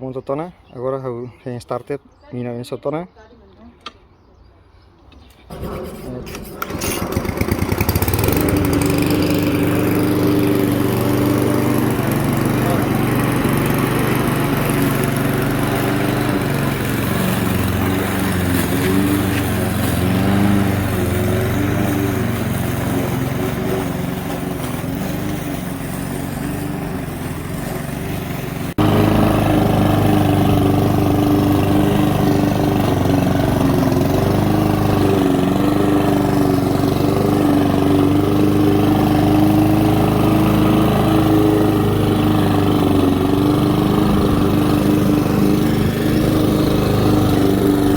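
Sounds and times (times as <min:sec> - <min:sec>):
lawnmower engine running: 0:05.4 - 0:47.9.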